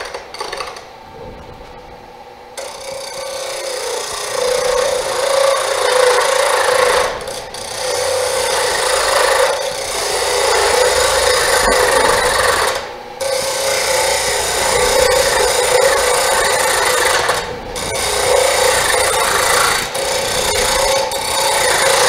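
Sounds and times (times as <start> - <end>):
lathe tool scraping wood: 0.0 - 0.9, 2.6 - 22.0.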